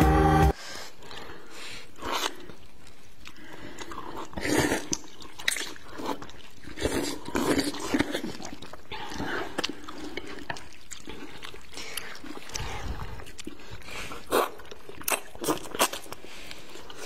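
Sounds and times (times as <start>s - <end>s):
slurping and chewing noodles: 0.6s - 17.0s.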